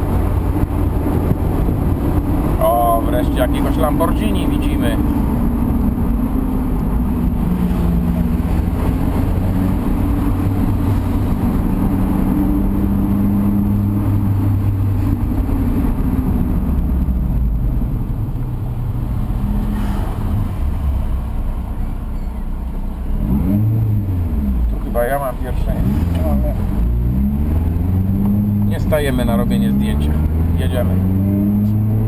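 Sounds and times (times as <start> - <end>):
car engine at low revs: 0.0 - 32.0
road and tyre noise: 0.0 - 32.0.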